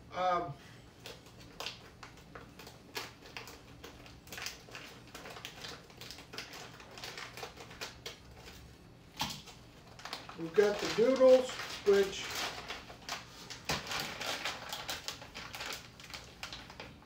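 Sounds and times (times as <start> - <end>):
plastic bag crinkling: 0.9 - 17.0.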